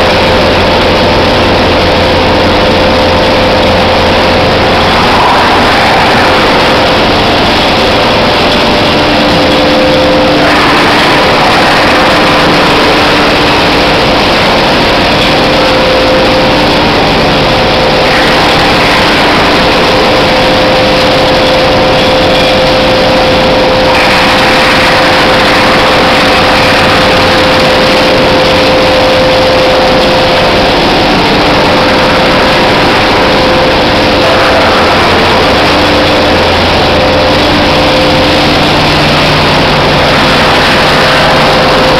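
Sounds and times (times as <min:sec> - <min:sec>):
steady hum: 0:00.0 - 0:41.9
wood chipping machinery din: 0:00.0 - 0:41.9.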